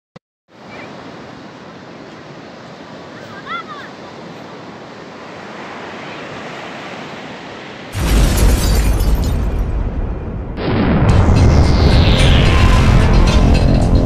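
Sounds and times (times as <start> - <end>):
ocean surf breaking: 0.5 - 14.0.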